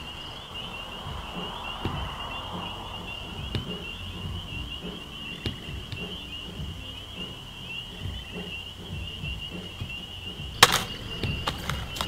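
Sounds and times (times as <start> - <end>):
insects trilling: 0.0 - 12.0
soft low knocks: 0.0 - 12.0.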